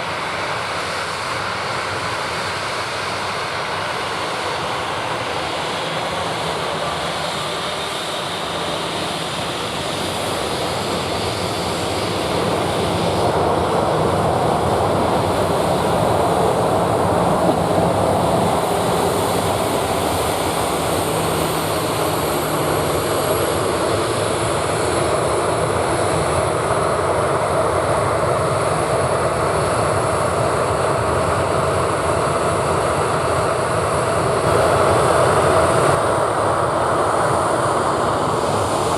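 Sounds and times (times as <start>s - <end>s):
high engine whine: 0.0s - 38.9s
jet engines roaring: 0.0s - 38.9s.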